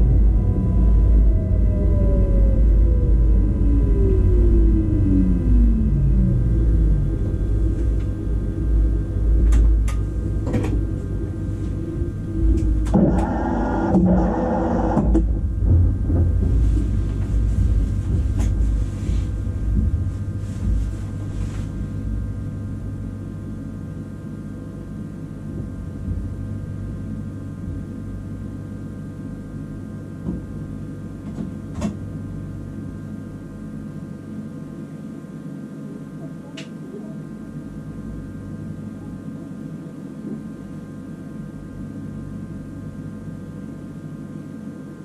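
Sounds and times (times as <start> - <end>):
steady mid-pitched whine: 0.0 - 45.0
train equipment low rumble: 0.0 - 45.0.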